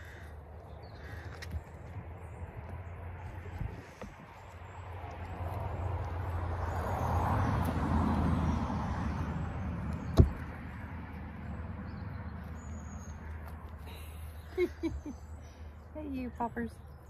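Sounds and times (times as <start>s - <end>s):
vehicle passing: 1.8s - 16.8s.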